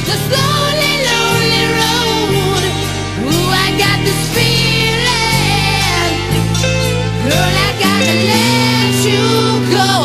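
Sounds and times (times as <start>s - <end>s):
held instrumental chords: 0.0s - 10.0s
person singing: 0.0s - 10.0s.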